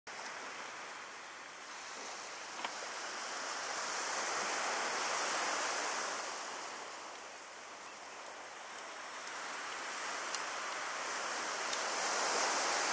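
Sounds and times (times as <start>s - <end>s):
light wind: 0.1s - 12.9s
waves washing on a beach: 0.1s - 12.9s.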